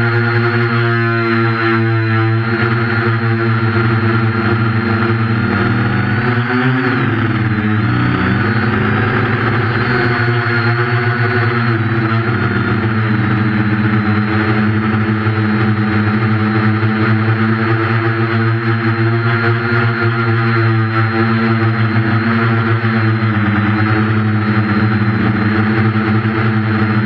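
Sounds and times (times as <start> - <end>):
quadcopter motors whining: 0.0 - 27.0.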